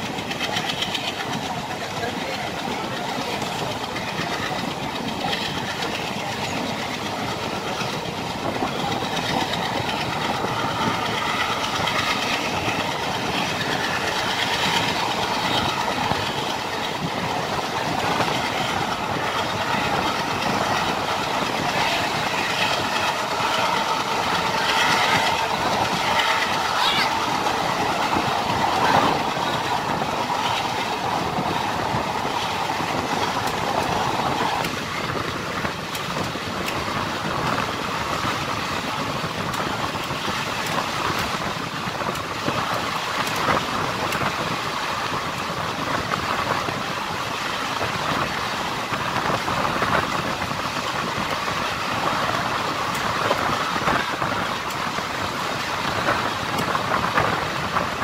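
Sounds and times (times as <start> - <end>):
train wheels rumbling on rail: 0.0 - 58.0
wind rushing: 0.0 - 58.0.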